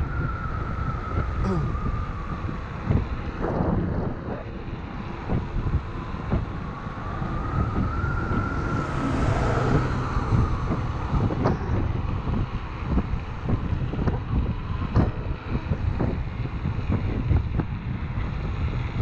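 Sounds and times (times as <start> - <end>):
motor whine: 0.0 - 19.0
road rumble: 0.0 - 19.0
wind buffeting microphone: 0.0 - 19.0.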